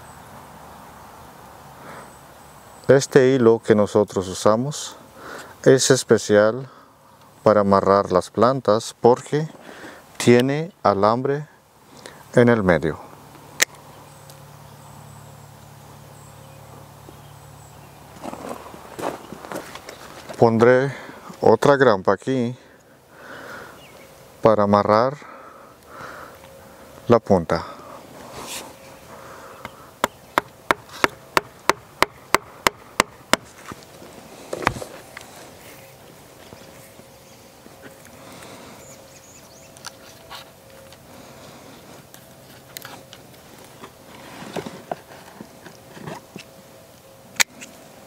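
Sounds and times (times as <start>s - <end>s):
steady low hum: 3.8s - 48.0s.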